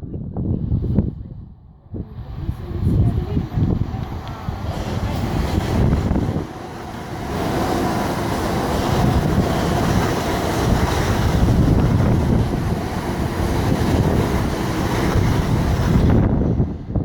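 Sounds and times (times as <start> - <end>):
wind buffeting microphone: 0.0 - 17.0
train passing rumble: 0.7 - 17.0.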